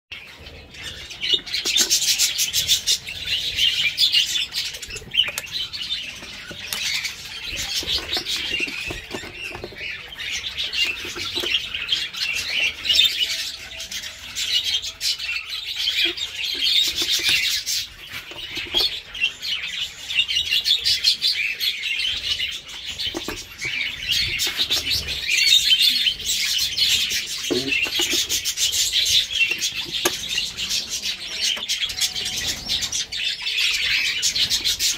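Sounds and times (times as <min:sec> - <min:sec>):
budgerigars chattering and chirping: 0:00.2 - 0:34.9.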